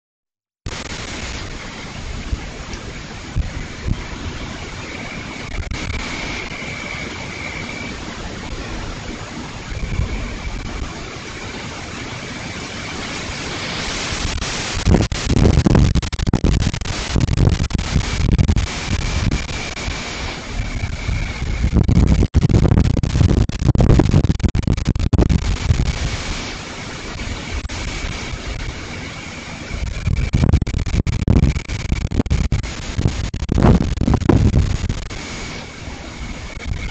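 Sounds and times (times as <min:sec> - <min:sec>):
strong wind rushing through trees: 0:00.7 - 0:36.9
wind gusts thumping microphone: 0:00.7 - 0:36.9.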